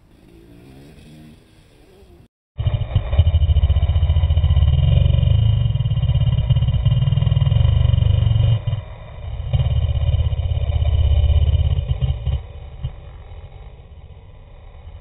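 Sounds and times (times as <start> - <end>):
two-stroke motorcycle engine revving: 2.6 - 15.0.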